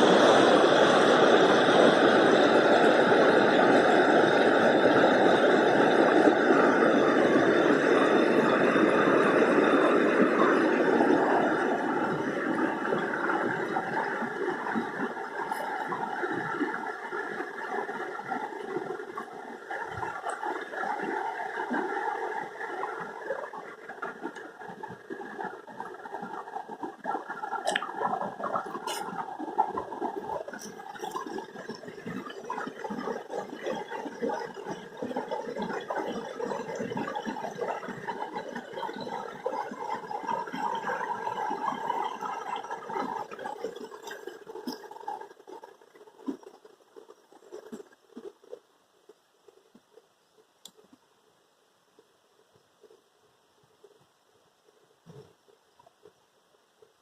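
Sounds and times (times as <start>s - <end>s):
water running and gurgling: 0.0s - 51.2s.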